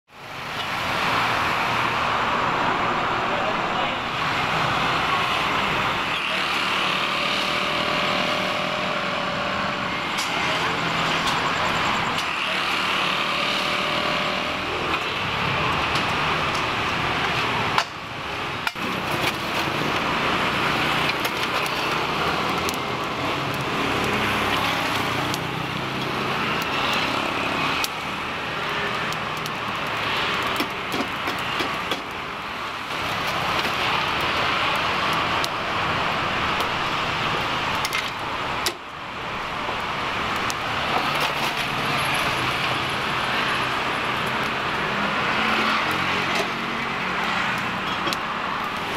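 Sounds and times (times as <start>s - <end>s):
passing traffic hum: 0.1s - 48.9s.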